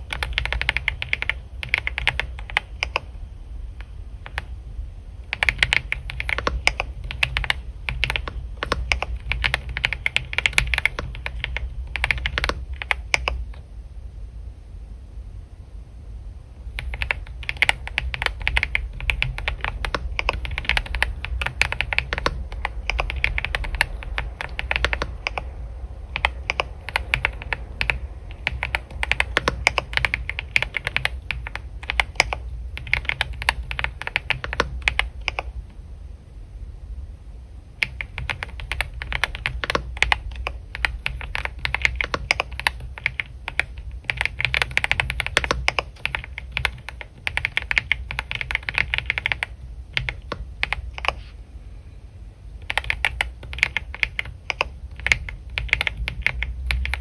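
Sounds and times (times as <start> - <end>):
computer keyboard typing: 0.0 - 3.2, 3.8 - 4.6, 5.2 - 13.7, 16.7 - 35.6, 37.8 - 51.4, 52.6 - 57.0
steady low hum: 0.0 - 57.0.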